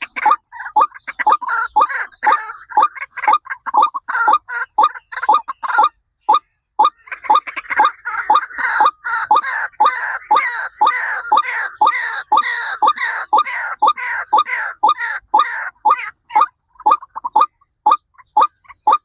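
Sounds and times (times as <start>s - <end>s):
birds calling harsh notes: 0.0s - 19.0s.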